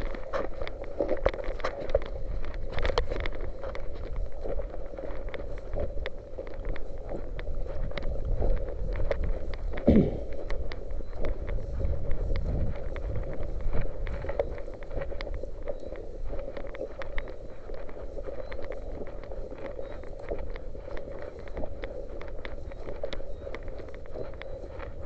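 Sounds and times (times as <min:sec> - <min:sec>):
small scattered clicks: 0:00.0 - 0:25.0
wind buffeting microphone: 0:00.0 - 0:25.0.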